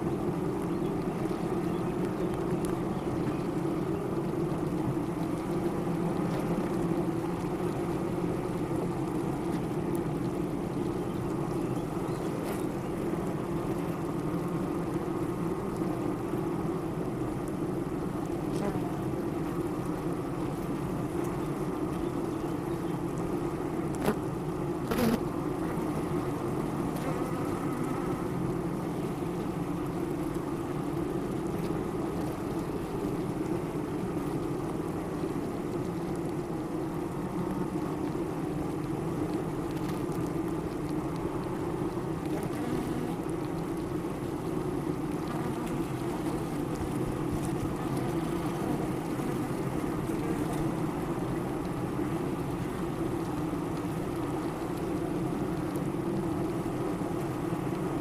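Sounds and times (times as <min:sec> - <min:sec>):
honey bees humming: 0:00.0 - 0:58.0.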